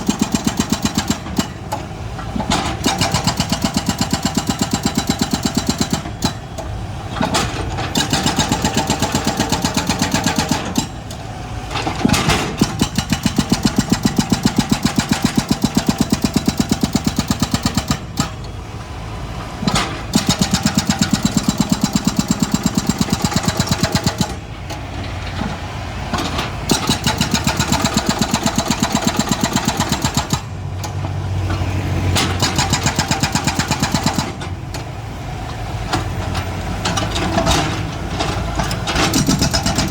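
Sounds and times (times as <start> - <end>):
excavator diesel engine working: 0.0 - 39.9.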